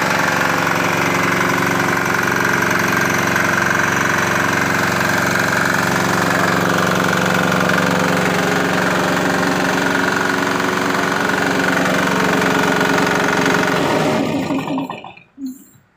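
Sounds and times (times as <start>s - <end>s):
diesel engine running: 0.0s - 15.6s.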